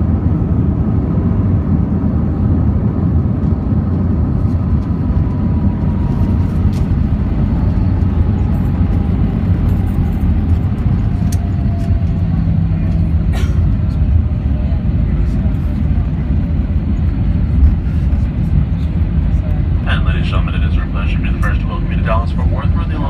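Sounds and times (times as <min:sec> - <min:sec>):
airplane engines and airflow rumble: 0:00.0 - 0:23.0.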